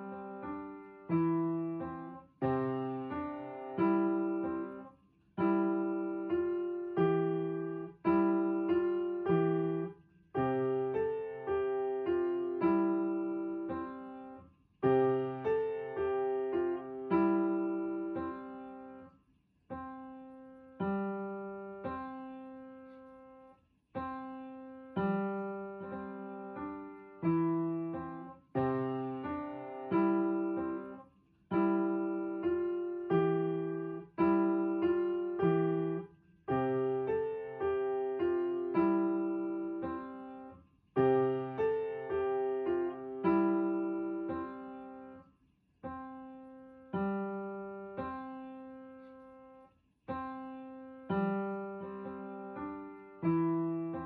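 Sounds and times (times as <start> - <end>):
gentle piano melody: 0.0 - 19.1, 19.7 - 45.2, 45.8 - 54.0.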